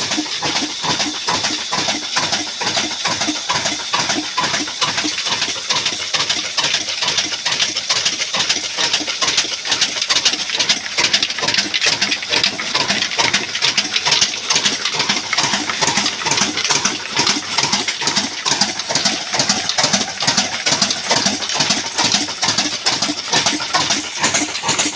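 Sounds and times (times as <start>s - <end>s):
diesel engine pulsing steadily: 0.0s - 24.9s.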